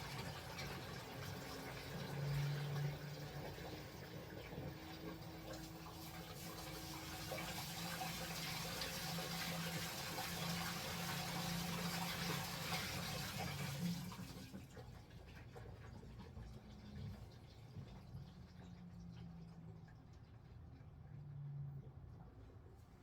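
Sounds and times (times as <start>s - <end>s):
water rushing in washing machine: 0.0s - 23.0s.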